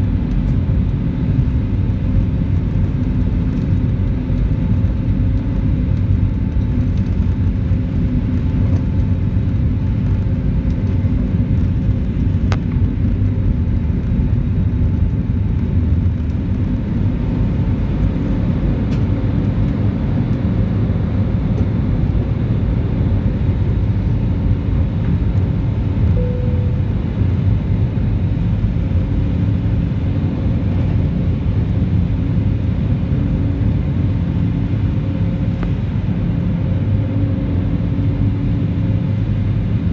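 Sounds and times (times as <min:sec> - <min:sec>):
jet engines and airflow rumble: 0:00.0 - 0:39.9.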